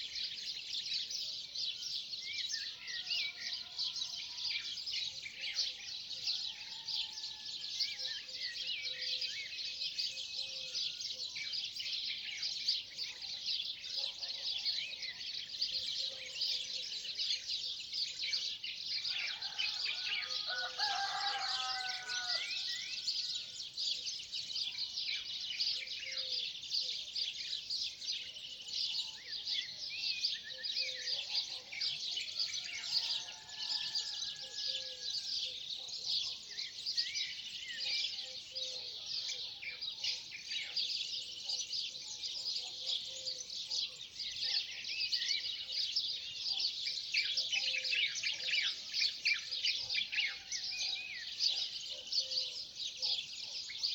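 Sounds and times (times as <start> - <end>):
chorus of birds chirping: 0.0 - 53.9.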